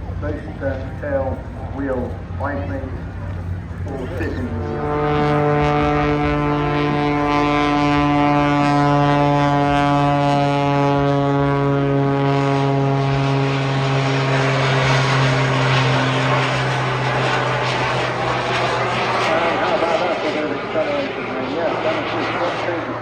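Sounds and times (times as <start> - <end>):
propeller plane flying past: 0.0 - 23.0.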